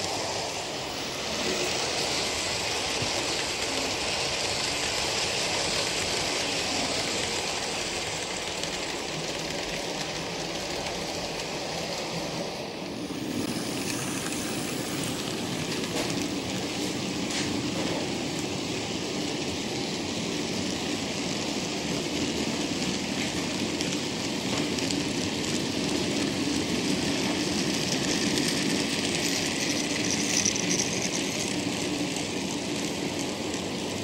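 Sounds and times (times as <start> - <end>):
model train whirring on rails: 0.0 - 34.0.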